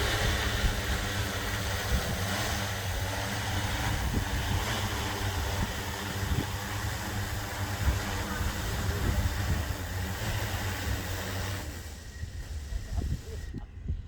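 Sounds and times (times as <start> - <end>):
drone rotors whirring: 0.0 - 14.0.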